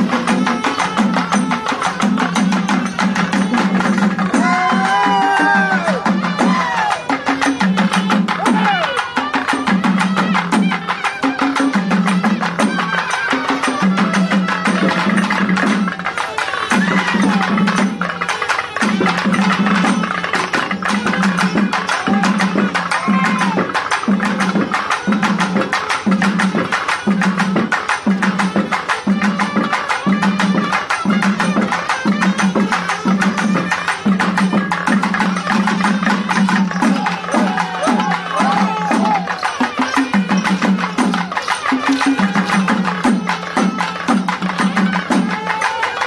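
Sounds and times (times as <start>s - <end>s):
festival percussion music: 0.0s - 46.0s.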